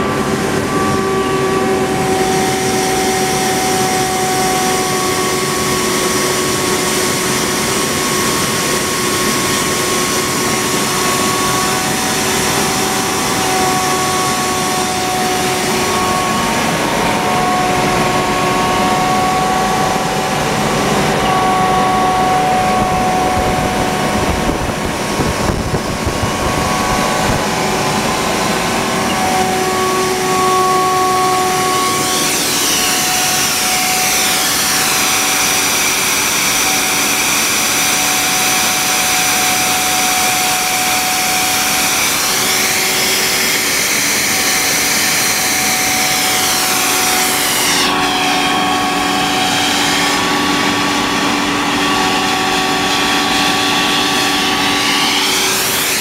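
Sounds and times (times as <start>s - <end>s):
air compressor running: 0.0s - 56.0s.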